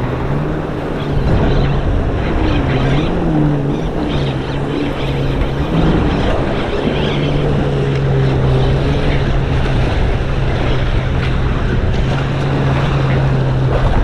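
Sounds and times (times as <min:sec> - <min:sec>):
engine droning: 0:00.0 - 0:14.0
wind on microphone: 0:00.0 - 0:14.0.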